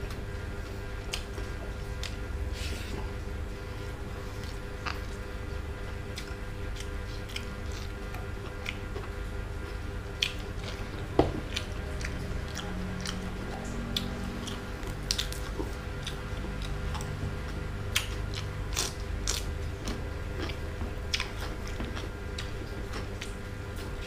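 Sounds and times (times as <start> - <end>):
person chewing crunchy vegetables: 0.0 - 24.0.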